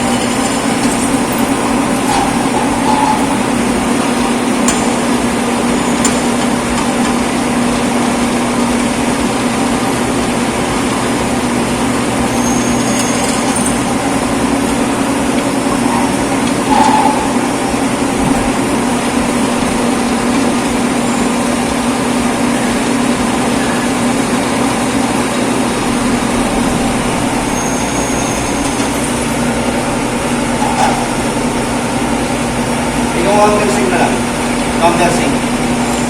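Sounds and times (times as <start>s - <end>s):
steady machine drone: 0.0s - 36.0s.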